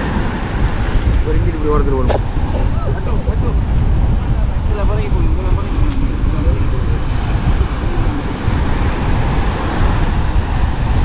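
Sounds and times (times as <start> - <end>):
surf rushing: 0.0 - 11.0
wind buffeting microphone: 0.0 - 11.0
faint voices: 1.2 - 10.6.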